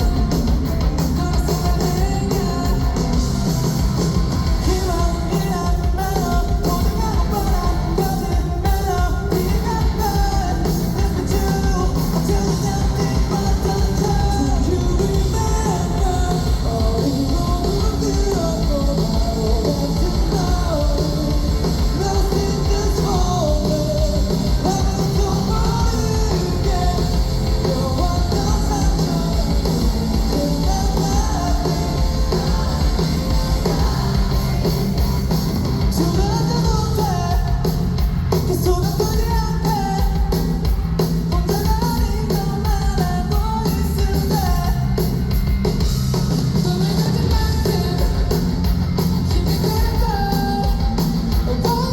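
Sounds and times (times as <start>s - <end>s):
lead vocal singing: 0.0s - 45.1s, 46.4s - 51.9s
rock band playing live: 0.0s - 51.9s.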